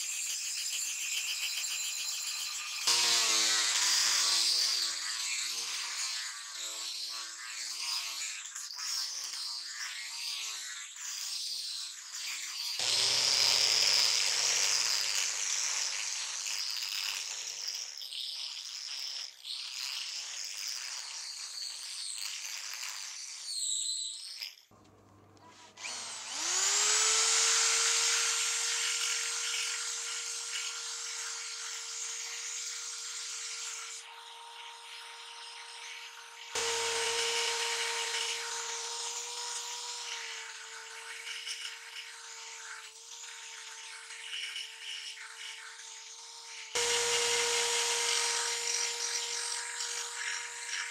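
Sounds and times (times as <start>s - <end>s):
die grinder whine: 0.0s - 23.9s, 24.7s - 50.9s
angle grinder sanding steel: 0.0s - 24.2s, 25.3s - 50.9s.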